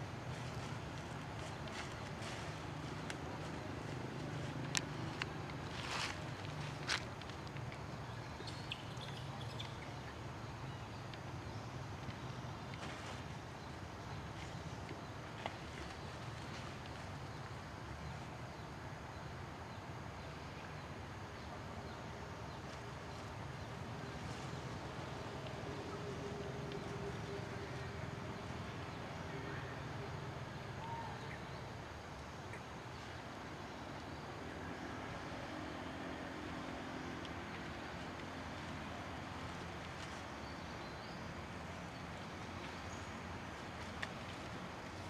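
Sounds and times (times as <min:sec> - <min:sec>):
low rumble and hiss: 0:00.0 - 0:45.0.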